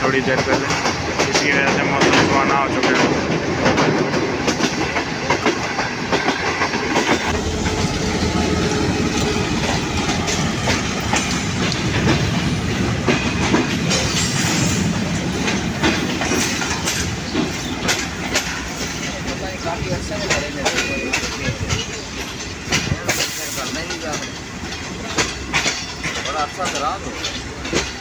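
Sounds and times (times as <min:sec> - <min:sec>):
train rumbling along track: 0:00.0 - 0:28.0
wheels clacking over rail joints: 0:00.0 - 0:28.0.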